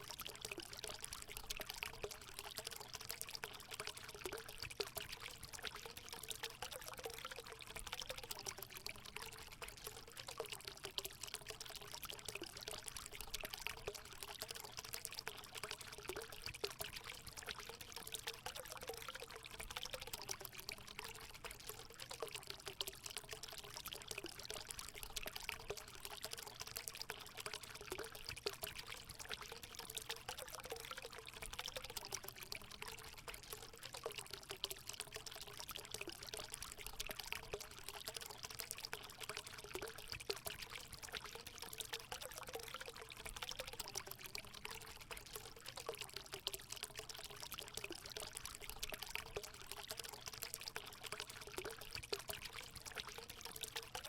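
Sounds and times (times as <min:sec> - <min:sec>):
water pouring into a pool: 0:00.0 - 0:54.0.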